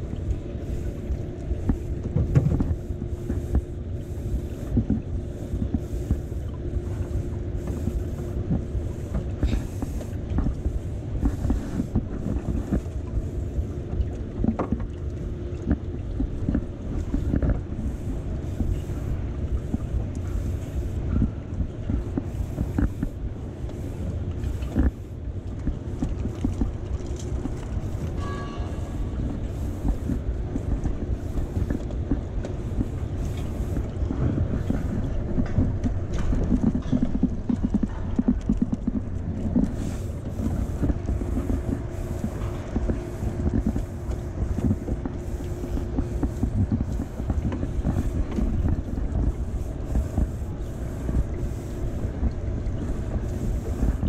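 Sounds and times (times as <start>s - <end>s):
steady low hum: 0.0s - 54.0s
water slapping against boat hull: 0.0s - 54.0s
wind rumbling on microphone: 0.0s - 54.0s.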